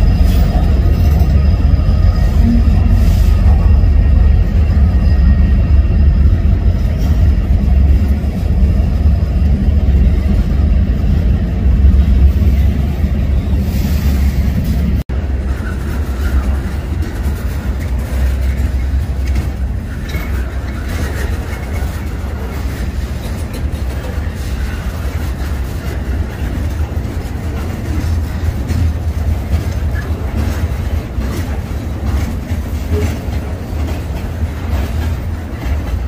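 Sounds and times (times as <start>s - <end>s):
freight train rumbling by: 0.0s - 36.0s.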